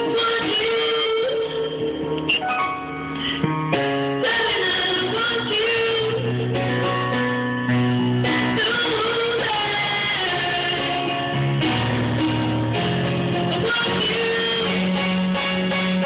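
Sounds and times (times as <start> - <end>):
guitar accompaniment: 0.0 - 16.0
woman singing into microphone: 0.0 - 16.0.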